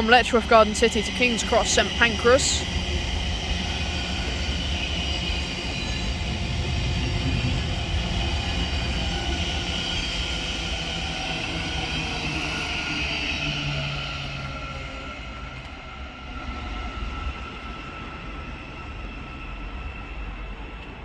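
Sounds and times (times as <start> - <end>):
train rumbling and hissing: 0.0 - 21.0.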